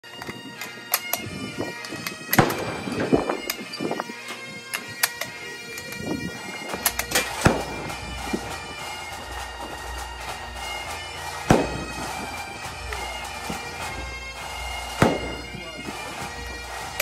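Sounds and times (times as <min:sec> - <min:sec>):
bagpipe music with drone: 0:00.0 - 0:17.0.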